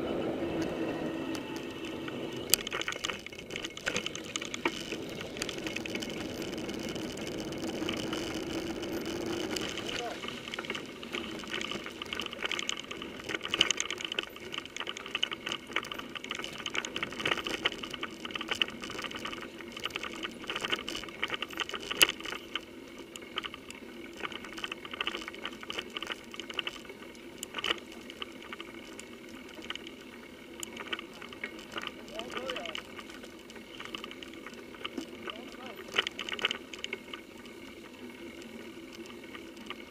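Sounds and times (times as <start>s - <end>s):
mountain bike rattling over trail: 0.0s - 39.9s.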